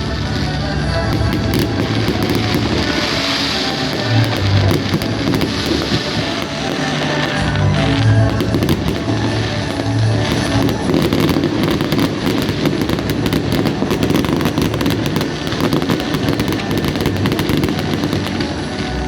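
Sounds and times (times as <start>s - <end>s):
fireworks barrage crackling: 0.0s - 19.0s.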